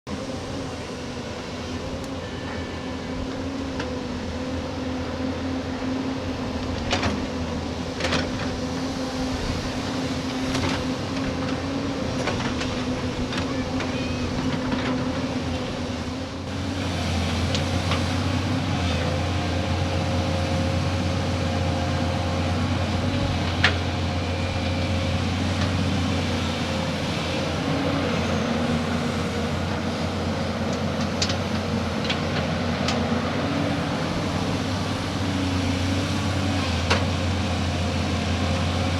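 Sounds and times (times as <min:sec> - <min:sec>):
diesel excavator engine under load: 0:00.0 - 0:38.9.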